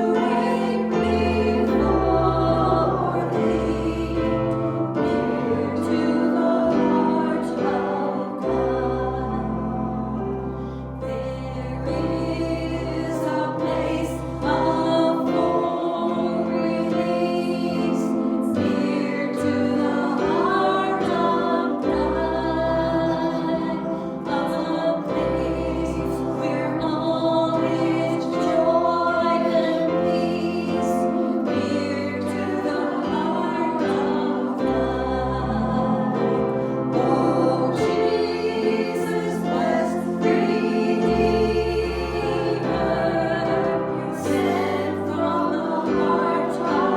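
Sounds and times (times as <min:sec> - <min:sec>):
group singing a hymn: 0:00.0 - 0:46.9.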